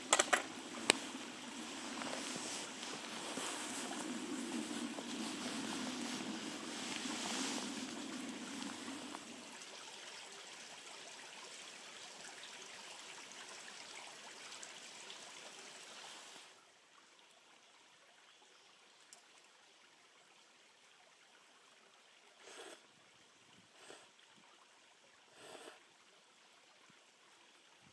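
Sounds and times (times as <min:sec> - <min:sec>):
flowing stream: 0:00.0 - 0:27.9.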